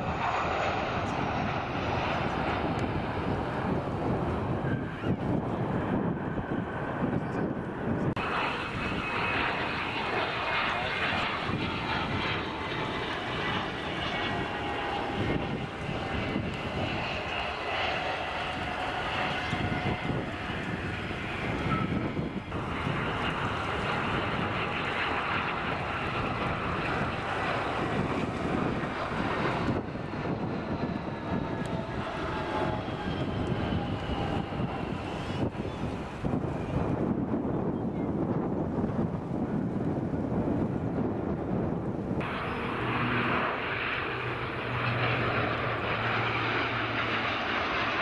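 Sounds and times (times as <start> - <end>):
jet engines with high whine: 0.0 - 48.0
wind rumble on microphone: 0.0 - 48.0.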